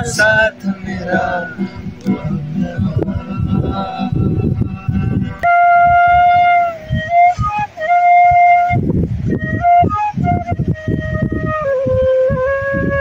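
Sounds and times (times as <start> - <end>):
bamboo flute slow melody: 0.0 - 13.0
low uneven rumble: 0.0 - 13.0.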